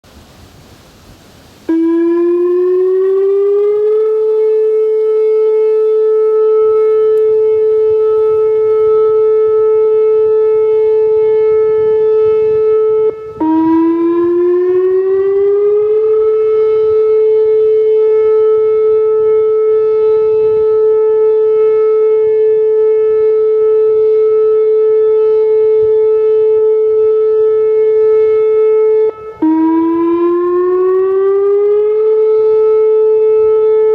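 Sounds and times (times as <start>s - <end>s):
electronic warning siren: 1.7s - 33.9s.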